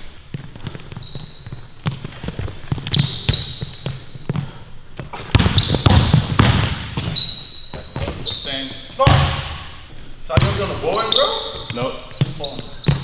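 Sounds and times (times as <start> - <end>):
basketball bouncing on court: 0.0 - 13.0
sneakers squeaking: 0.0 - 13.0.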